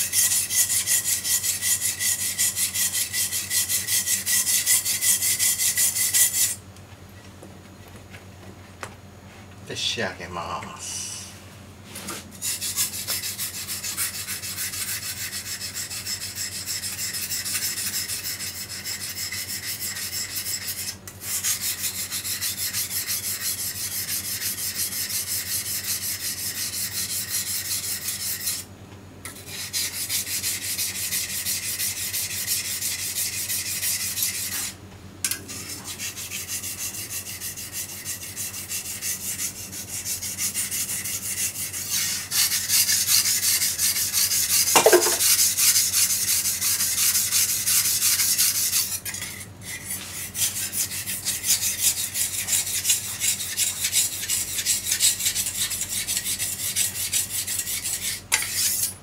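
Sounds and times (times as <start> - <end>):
knife rasping on a whetstone: 0.0 - 6.6, 11.9 - 28.7, 29.3 - 59.0.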